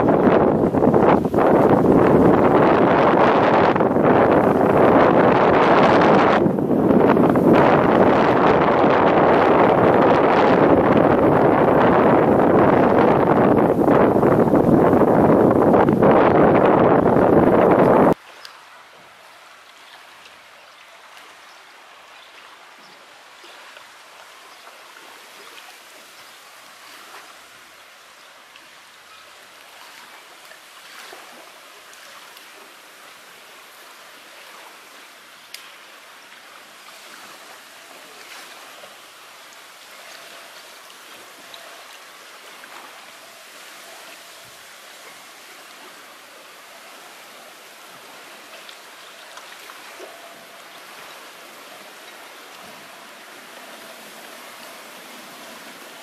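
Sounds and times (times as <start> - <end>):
small waves lapping at shore: 0.0 - 56.0.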